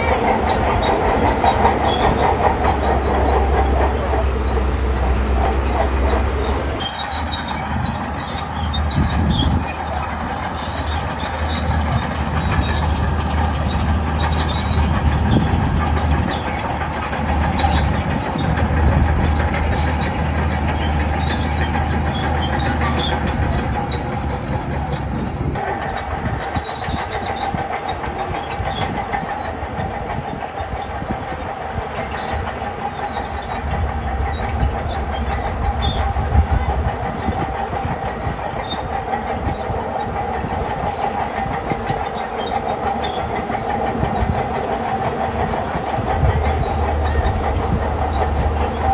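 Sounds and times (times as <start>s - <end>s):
bulldozer diesel engine drone: 0.0s - 48.9s
steel tracks clanking: 0.0s - 48.9s.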